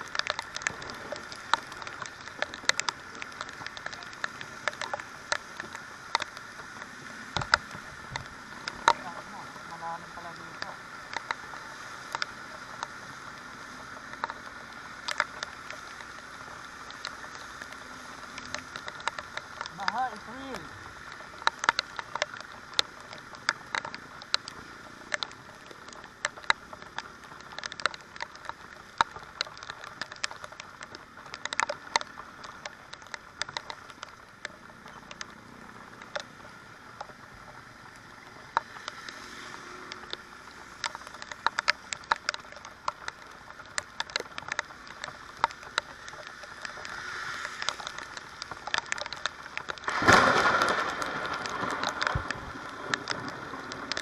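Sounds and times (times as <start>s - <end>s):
rain hissing on wet road: 0.0s - 54.0s
raindrops tapping on camera: 0.0s - 54.0s.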